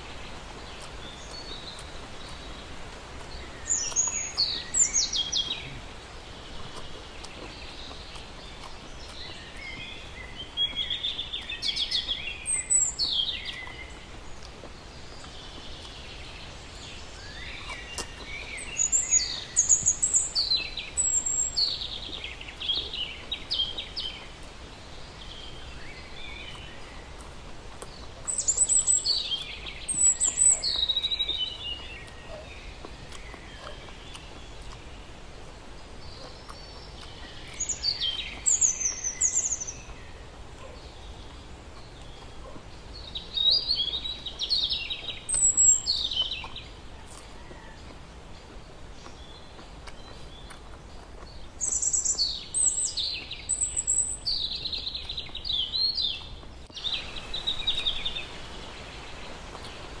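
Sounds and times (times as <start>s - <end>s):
background hiss: 0.0s - 60.0s
birds chirping: 0.0s - 60.0s.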